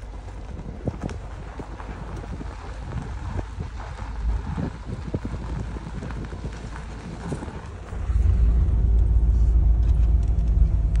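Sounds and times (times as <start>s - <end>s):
tyres ticking on ground: 0.0s - 9.2s
car driving on dirt track: 0.0s - 11.0s.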